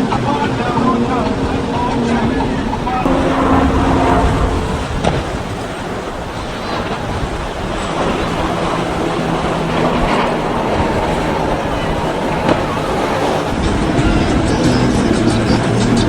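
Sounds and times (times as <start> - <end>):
power boat engine drone: 0.0 - 16.0
surf: 0.0 - 16.0
wind rushing: 0.0 - 16.0.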